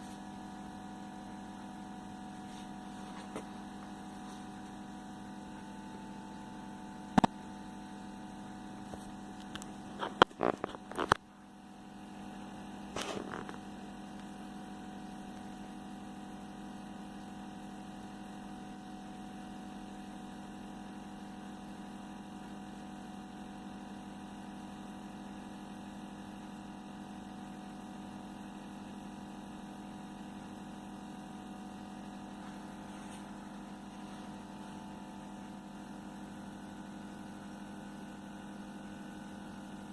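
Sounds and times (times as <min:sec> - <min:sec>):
electrical hum: 0:00.0 - 0:20.6, 0:25.3 - 0:39.9.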